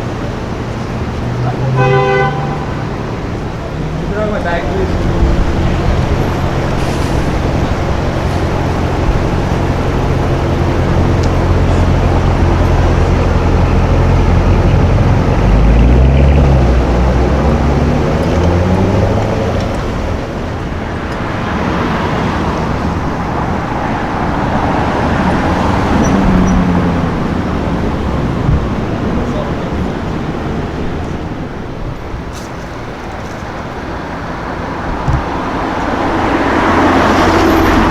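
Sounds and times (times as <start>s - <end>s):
second engine accelerating past: 0.0s - 31.7s
car engine idling and accelerating: 0.0s - 37.9s
street traffic: 0.0s - 37.9s.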